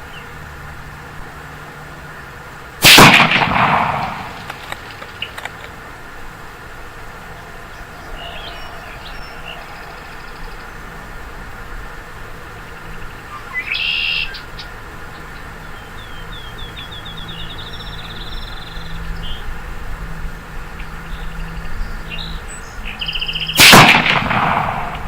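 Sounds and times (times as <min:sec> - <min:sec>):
wild birds singing: 0:00.0 - 0:02.4, 0:03.3 - 0:25.0
steady low hum: 0:00.0 - 0:25.0.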